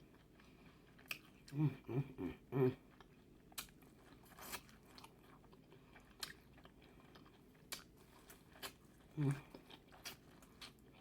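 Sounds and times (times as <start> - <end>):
chewing mouth sounds: 0.0 - 1.9, 2.8 - 11.0.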